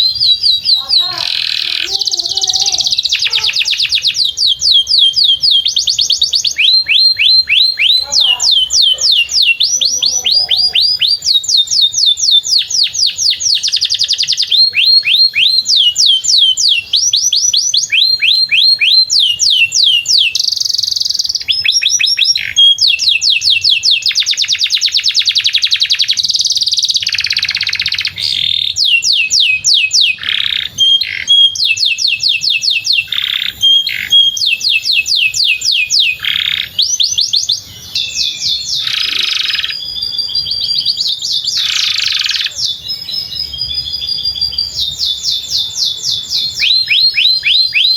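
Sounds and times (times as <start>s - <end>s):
canary singing: 0.0s - 47.9s.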